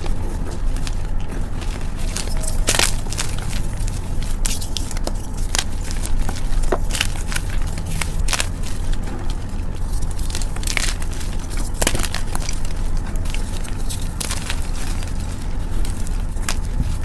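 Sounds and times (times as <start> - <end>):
chalk crunching by hand: 0.0 - 17.0
low hum: 0.0 - 17.0.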